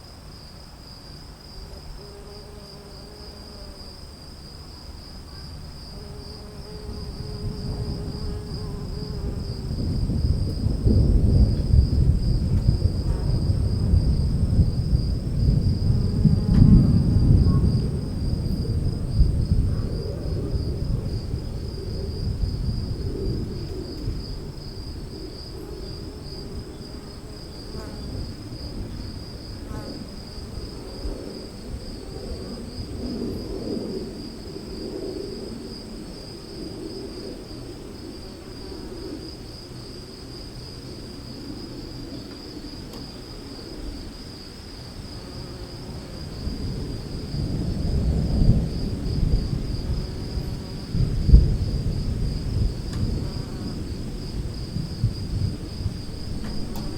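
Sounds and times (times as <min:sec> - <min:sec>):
high insect trill: 0:00.0 - 0:56.9
thunder rumble: 0:05.5 - 0:44.1, 0:45.0 - 0:56.9.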